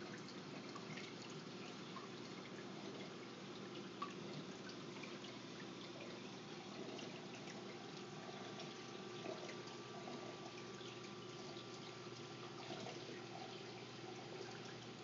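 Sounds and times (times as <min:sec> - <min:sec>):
low steady hum: 0:00.0 - 0:15.0
water trickling and splashing: 0:00.0 - 0:15.0.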